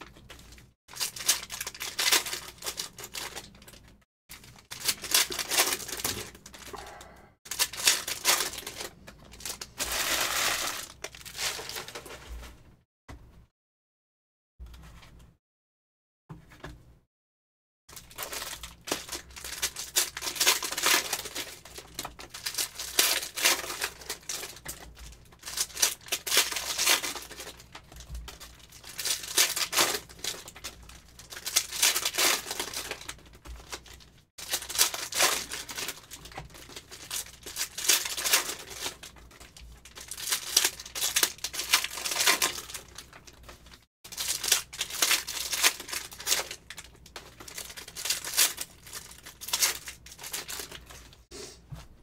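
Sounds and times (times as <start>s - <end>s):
foil wrappers tearing and crinkling: 0.0s - 6.7s, 7.5s - 12.3s, 17.9s - 51.2s.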